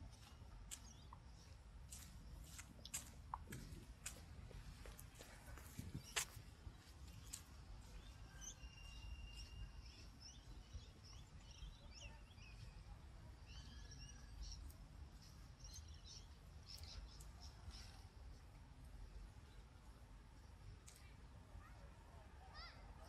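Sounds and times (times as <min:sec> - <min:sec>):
faint small birds chirping: 0:00.1 - 0:23.0.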